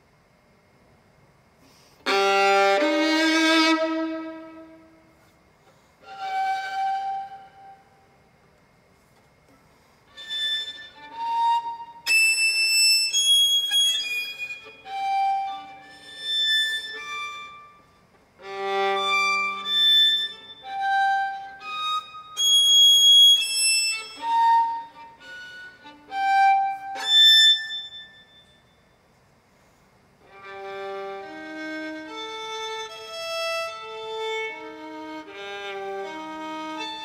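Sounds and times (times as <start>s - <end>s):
solo violin: 2.0s - 5.3s, 6.0s - 7.9s, 10.1s - 28.5s, 30.2s - 37.0s.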